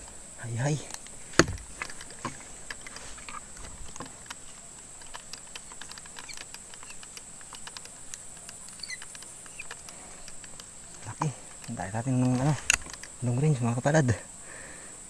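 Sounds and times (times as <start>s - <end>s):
clicks and rustles in grass: 0.0s - 14.4s
high-pitched insect drone: 0.0s - 15.0s.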